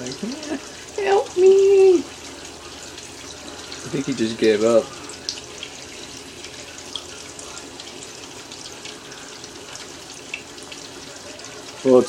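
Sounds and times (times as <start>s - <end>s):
water drips and splashes: 0.0s - 12.0s
water running into container: 0.0s - 12.0s.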